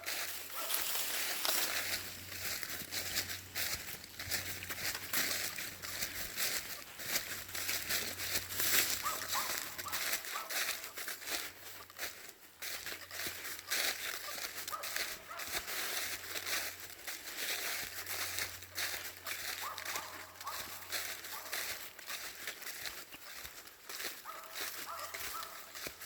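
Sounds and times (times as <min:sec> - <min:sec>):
footsteps crunching through dry leaves: 0:00.0 - 0:26.0.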